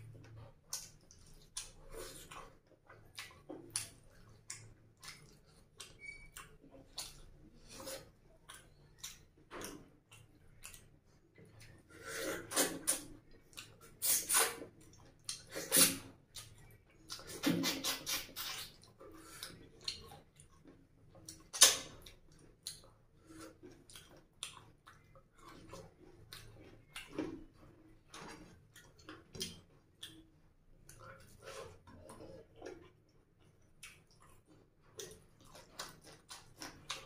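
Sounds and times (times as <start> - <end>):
wet chewing and lip smacking: 0.0 - 37.0.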